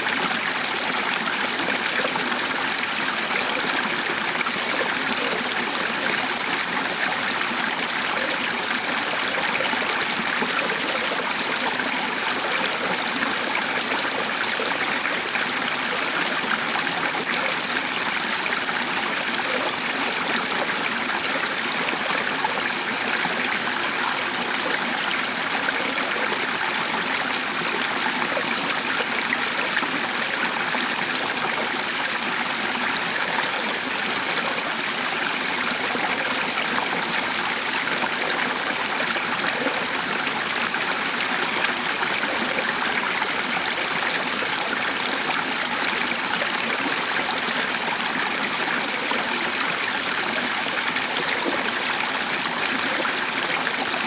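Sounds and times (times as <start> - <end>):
running water rushing and trickling: 0.0 - 54.0.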